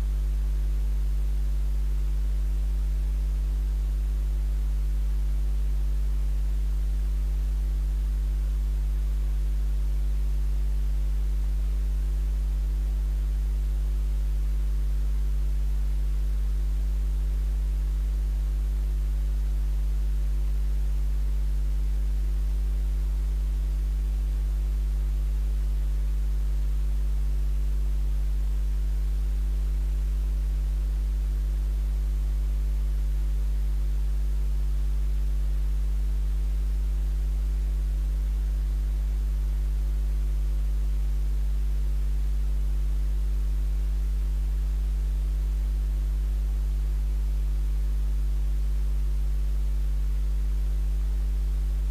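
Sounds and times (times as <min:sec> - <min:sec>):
electrical mains hum: 0:00.0 - 0:51.9.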